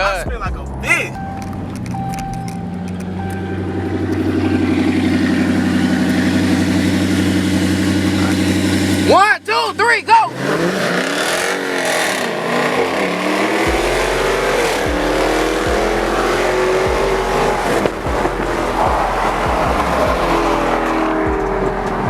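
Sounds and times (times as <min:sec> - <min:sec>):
car engines accelerating hard: 0:00.0 - 0:22.0.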